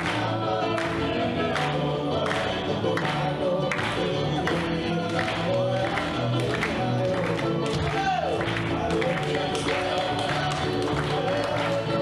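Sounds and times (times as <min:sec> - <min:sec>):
group singing: 0:00.0 - 0:12.0
guitars playing: 0:00.0 - 0:12.0.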